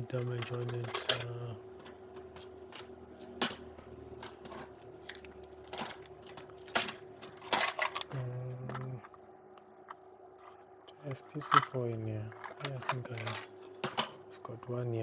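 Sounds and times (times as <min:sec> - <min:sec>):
small hard parts clicking: 0:00.0 - 0:09.2, 0:09.8 - 0:14.8
faint steady hum: 0:00.0 - 0:15.0.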